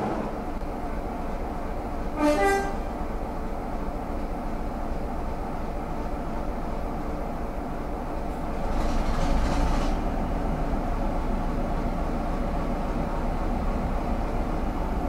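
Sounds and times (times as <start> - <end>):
diesel locomotive engine idling: 0.0 - 15.0.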